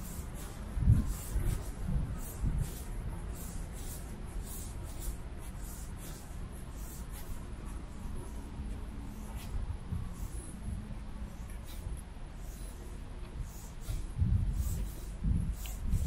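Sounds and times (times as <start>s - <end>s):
low city hum: 0.0s - 16.0s.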